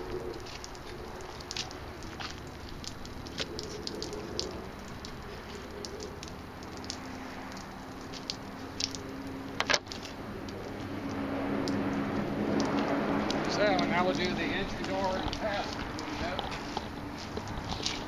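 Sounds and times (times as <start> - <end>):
meltwater dripping: 0.0 - 18.0.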